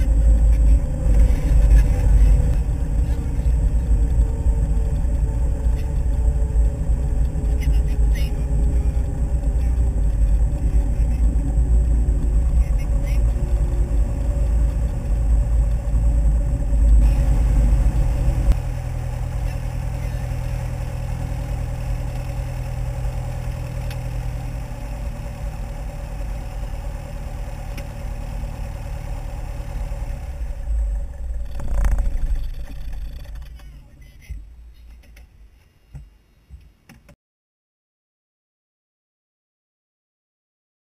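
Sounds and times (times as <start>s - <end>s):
airplane engine drone: 0.0s - 36.7s.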